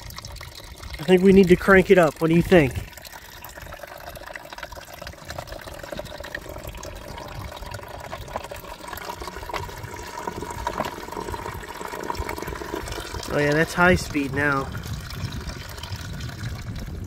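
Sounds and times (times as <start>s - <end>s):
fountain water trickling: 0.0s - 17.0s.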